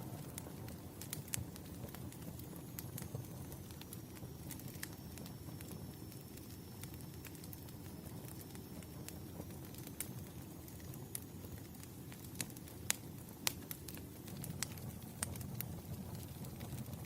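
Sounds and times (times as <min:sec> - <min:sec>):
bonfire rumbling: 0:00.0 - 0:17.0
fire crackles and pops: 0:00.0 - 0:17.0.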